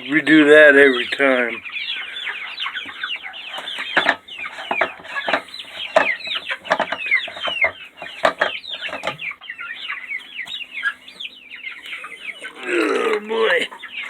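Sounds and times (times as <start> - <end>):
chickens clucking and squawking: 0.0 - 14.0.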